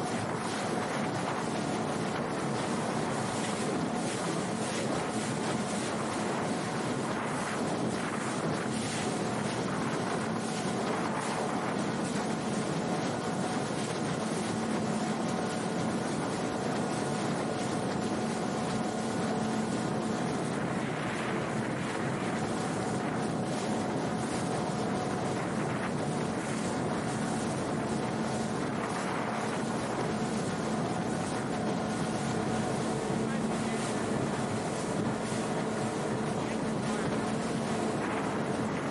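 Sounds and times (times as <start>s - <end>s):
outboard motor droning: 0.0s - 38.9s
water rushing: 0.0s - 38.9s
wind on microphone: 0.0s - 38.9s.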